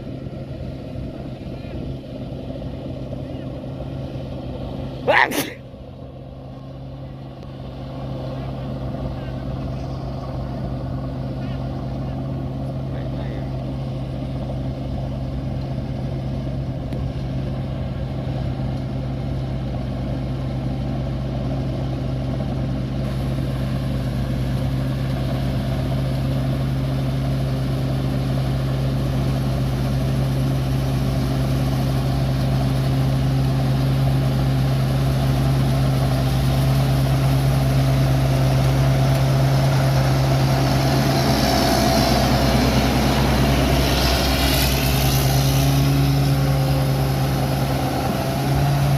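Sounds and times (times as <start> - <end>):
combine harvester engine running: 0.0 - 48.9.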